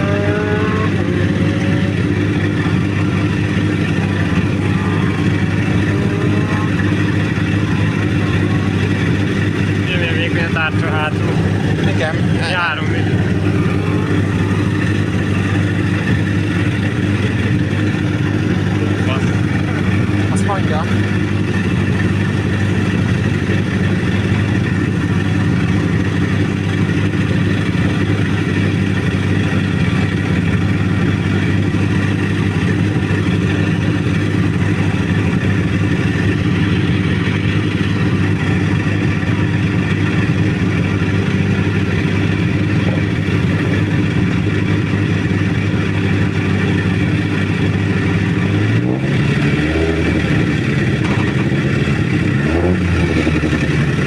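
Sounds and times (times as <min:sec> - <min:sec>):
rally car engine idling and revving: 0:00.0 - 0:54.0.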